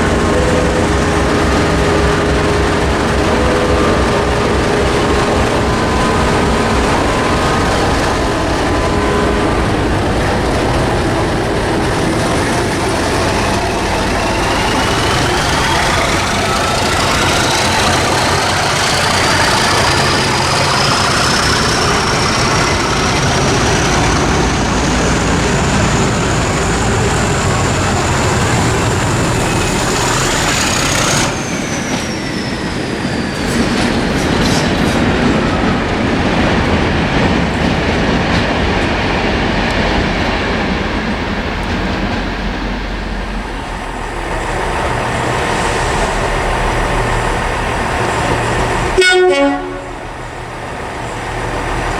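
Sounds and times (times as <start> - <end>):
train wheels clattering: 0.0 - 51.9.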